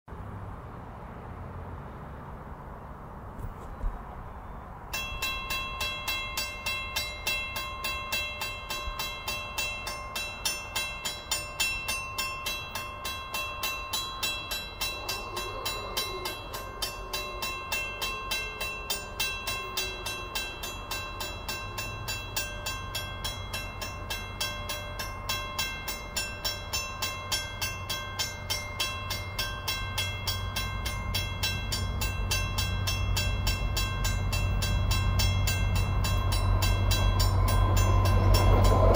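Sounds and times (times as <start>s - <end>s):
train rumbling: 0.1s - 38.9s
railway crossing bell dinging: 4.4s - 38.9s.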